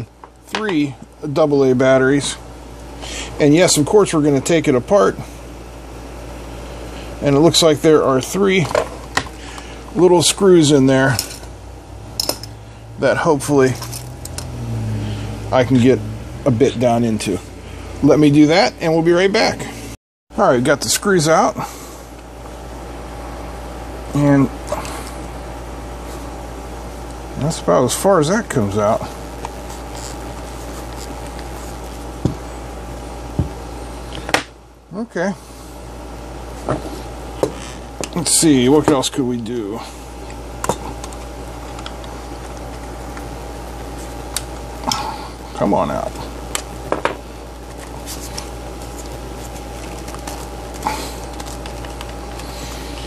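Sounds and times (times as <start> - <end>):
background hum and hiss: 0.0 - 53.0.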